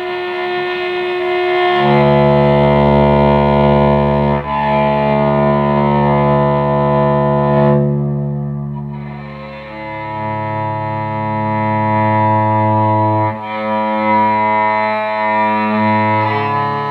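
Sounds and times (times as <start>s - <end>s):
electric cello bowed low notes: 0.0s - 16.9s.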